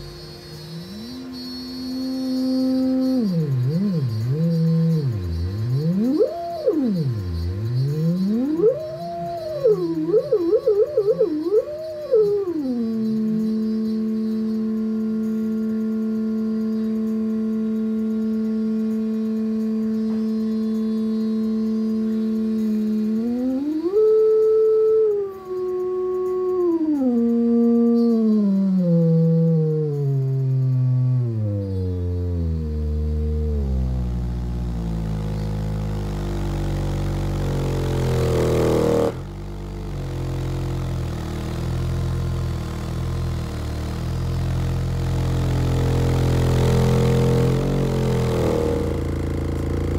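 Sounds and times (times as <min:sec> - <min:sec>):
buzzing overtone drone: 0:00.0 - 0:49.9
subwoofer sine test tone: 0:00.0 - 0:49.9.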